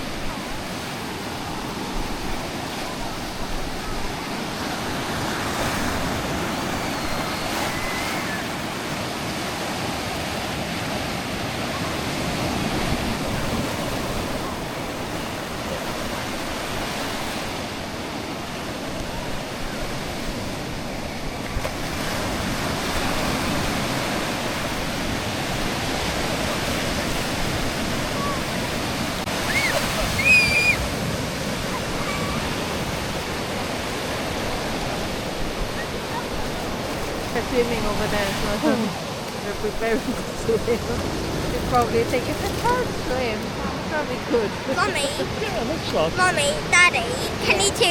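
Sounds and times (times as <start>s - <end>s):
sea surf washing onto beach: 0.0s - 47.9s.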